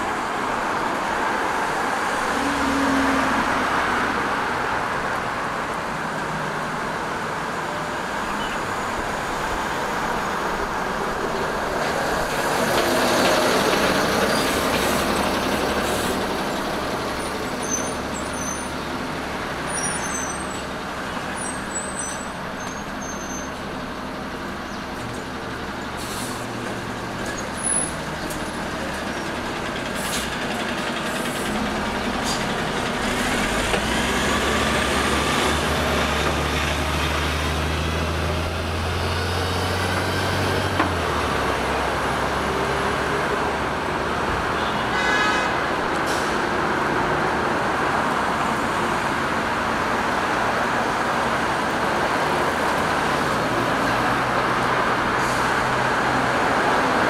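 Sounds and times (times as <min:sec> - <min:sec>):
bus engine rumble: 0:00.0 - 0:57.0
road traffic passing: 0:00.0 - 0:57.0.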